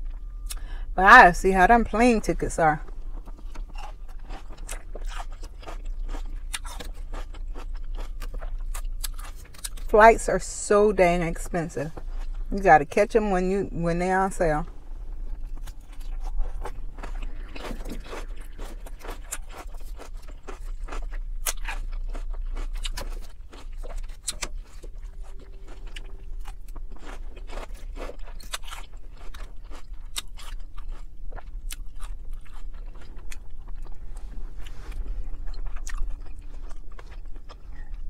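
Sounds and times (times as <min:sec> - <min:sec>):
person chewing crisp lettuce: 0:02.4 - 0:09.9, 0:14.9 - 0:38.0.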